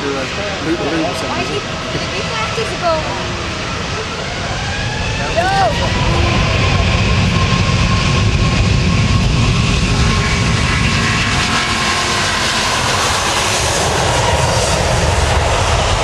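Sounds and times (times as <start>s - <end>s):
jet engines at takeoff thrust: 0.0s - 16.0s.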